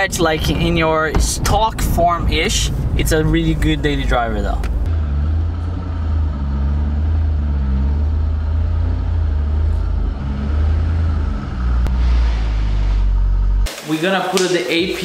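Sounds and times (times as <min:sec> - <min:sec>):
car engine rumbling: 0:00.0 - 0:13.7.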